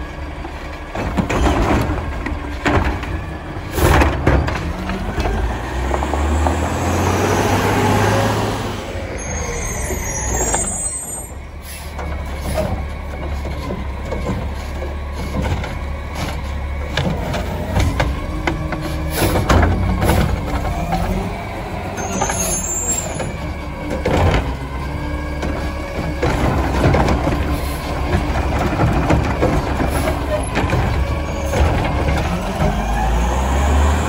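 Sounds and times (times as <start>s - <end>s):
truck engine revving: 1.0s - 11.0s, 11.6s - 34.0s.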